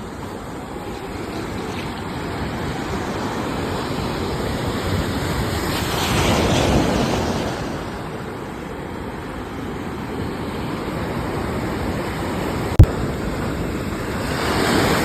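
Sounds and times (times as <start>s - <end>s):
ocean waves washing: 0.0s - 15.0s.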